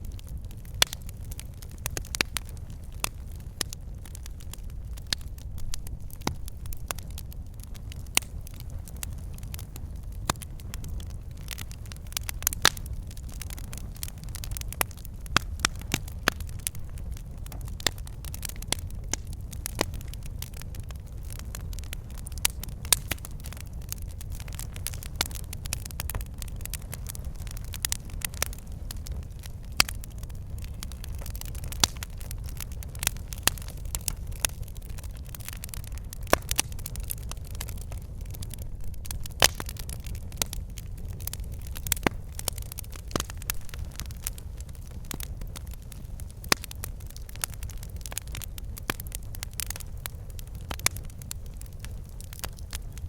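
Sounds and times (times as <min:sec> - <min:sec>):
fire flames rumbling: 0:00.0 - 0:53.0
logs crackling and popping: 0:00.0 - 0:53.0.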